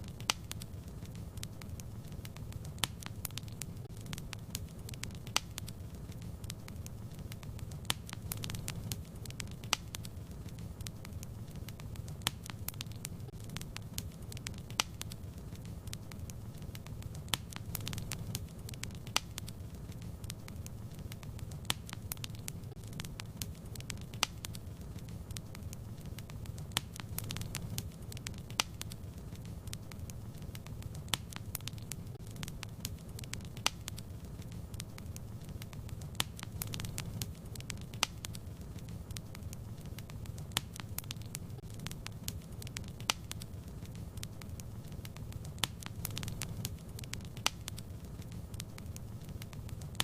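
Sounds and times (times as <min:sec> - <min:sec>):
fire flames rumbling: 0:00.0 - 0:50.0
fire popping and crackling: 0:00.0 - 0:50.0.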